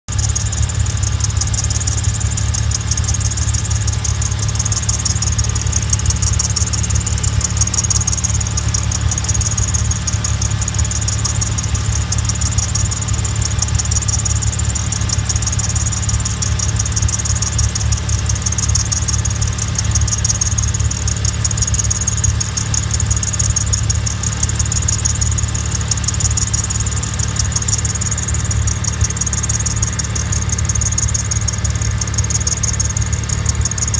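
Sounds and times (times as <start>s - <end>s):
high-pitched scratchy ticking: 0.1s - 33.9s
rotary engine idling: 0.1s - 33.9s.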